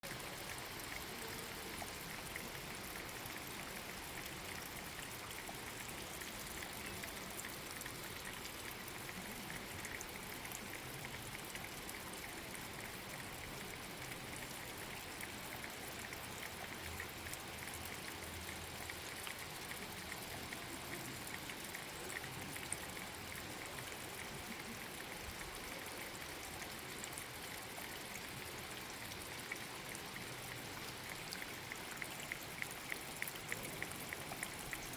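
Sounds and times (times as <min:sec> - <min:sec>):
running water hiss: 0:00.0 - 0:34.9
water dripping on stones: 0:00.2 - 0:34.9.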